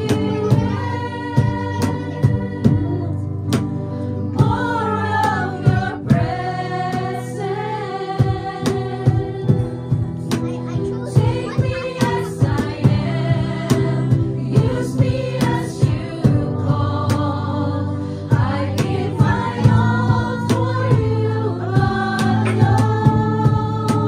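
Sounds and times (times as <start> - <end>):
women singing gospel: 0.0 - 10.2, 11.2 - 24.0.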